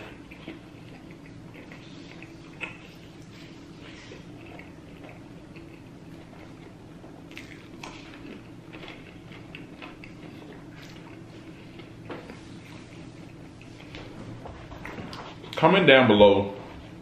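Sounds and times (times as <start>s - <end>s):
person chewing food: 0.0s - 15.6s.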